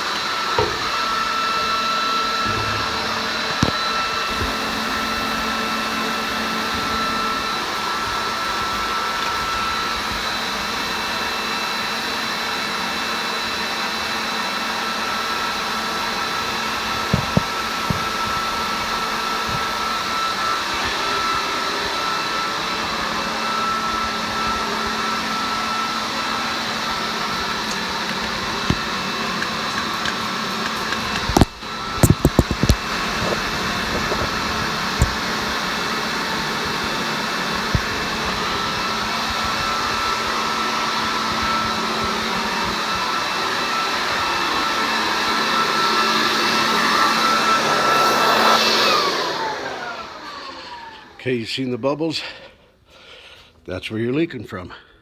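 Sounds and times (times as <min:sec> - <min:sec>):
leaf blower whining: 0:00.0 - 0:51.7.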